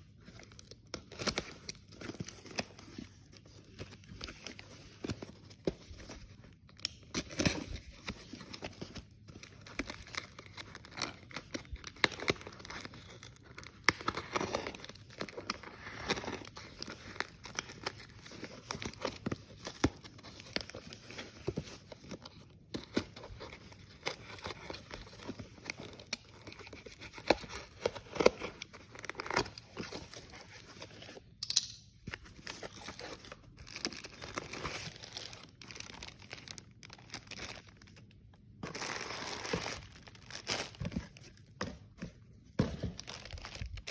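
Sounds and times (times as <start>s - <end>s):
packaging crinkling and rustling: 0.1s - 43.9s.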